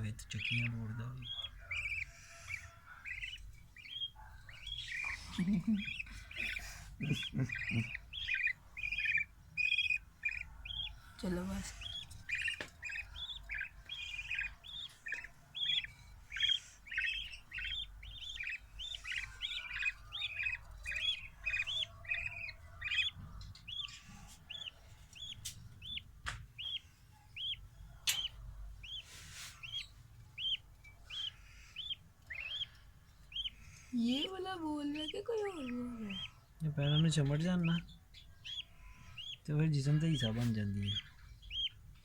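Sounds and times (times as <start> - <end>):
budgerigar chicks chirping: 0.0 - 42.0.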